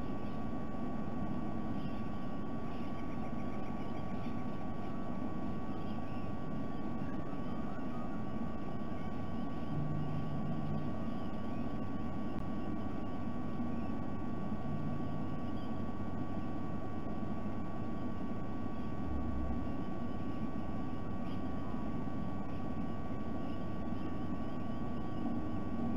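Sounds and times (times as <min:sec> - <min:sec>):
electrical hum: 0:00.0 - 0:25.9.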